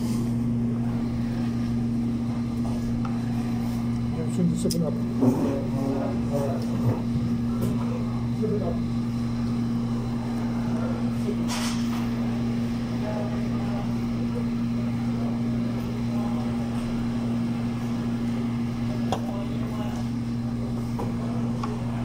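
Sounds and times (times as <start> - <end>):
low machine hum: 0.0 - 22.0
faint voices: 0.5 - 22.0.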